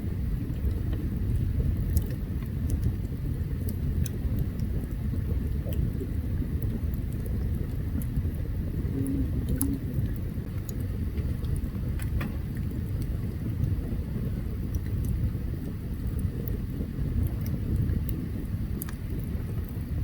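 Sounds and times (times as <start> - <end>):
campfire crackling and popping: 0.0 - 20.0
fire low rumble: 0.0 - 20.0.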